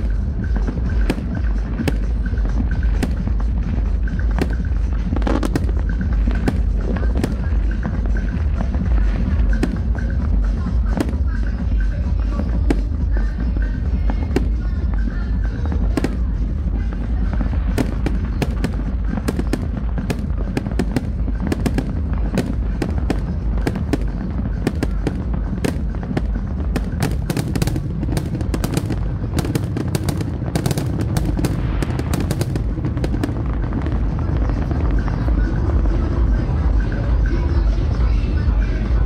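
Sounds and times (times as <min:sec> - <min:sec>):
deep rumble: 0:00.0 - 0:39.0
fireworks bangs and crackles: 0:00.0 - 0:39.0.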